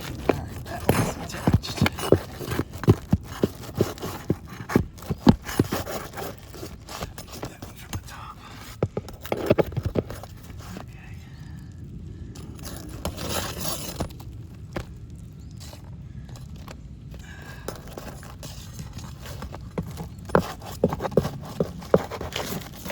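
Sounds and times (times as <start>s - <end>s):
tools prying roof shingles: 0.0s - 10.8s, 12.6s - 22.9s.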